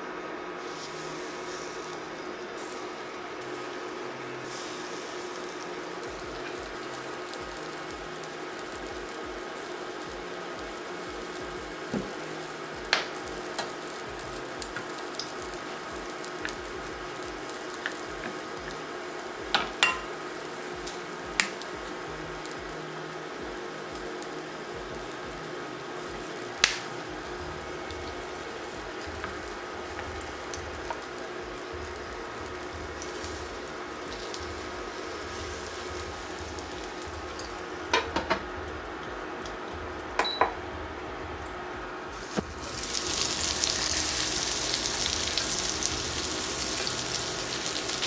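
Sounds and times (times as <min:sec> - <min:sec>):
fish sizzling in a frying pan: 0:00.0 - 0:40.2, 0:42.0 - 0:48.0
faint steady hum: 0:00.0 - 0:48.0.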